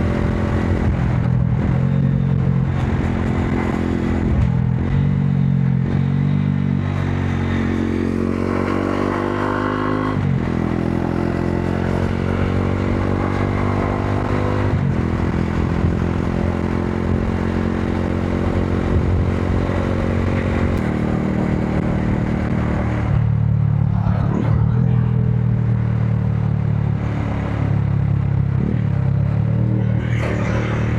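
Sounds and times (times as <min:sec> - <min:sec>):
motorcycle engine accelerating: 0:00.0 - 0:30.9.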